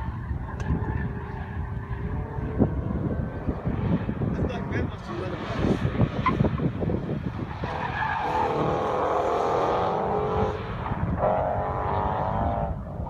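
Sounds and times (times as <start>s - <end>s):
car engine and tyres whining: 0.0s - 13.0s.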